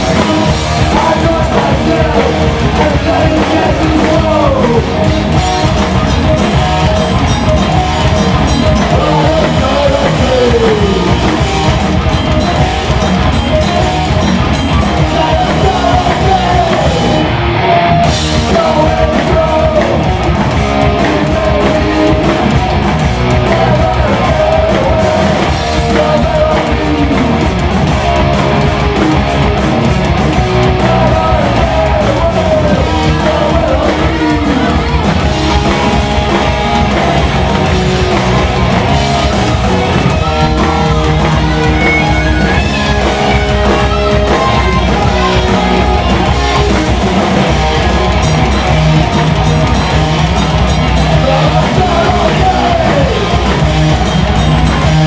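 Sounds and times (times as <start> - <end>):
heavy metal band playing: 0.0 - 55.0
sliding lead guitar melody: 0.0 - 55.0.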